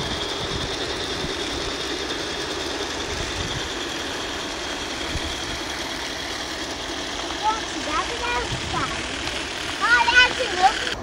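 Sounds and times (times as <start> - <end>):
model train rumbling on track: 0.0 - 11.0.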